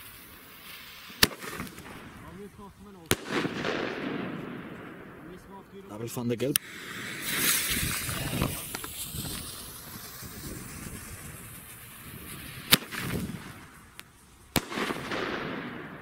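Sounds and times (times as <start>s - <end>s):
firework hissing: 0.0s - 4.6s, 6.6s - 15.9s
firework bangs: 0.0s - 5.8s, 6.6s - 16.0s.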